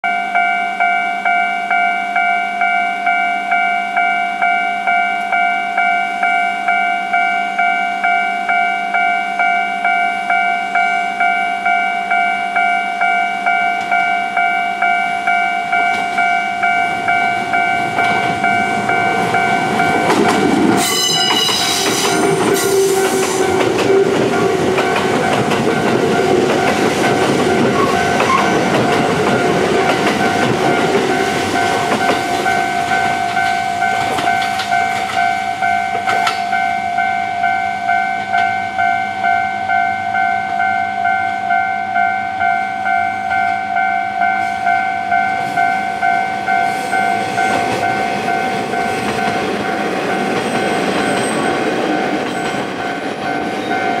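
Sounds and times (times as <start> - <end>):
level crossing bell ringing: 0.0 - 54.0
train passing: 5.2 - 54.0.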